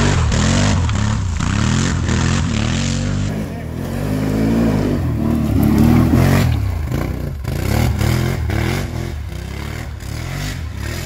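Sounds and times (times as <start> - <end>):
atv engine revving hard: 0.0 - 11.0.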